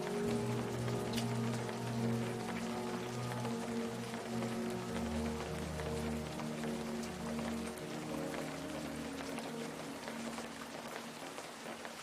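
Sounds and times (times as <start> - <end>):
low sustained music notes: 0.0 - 12.0
steady rain falling: 0.0 - 12.0.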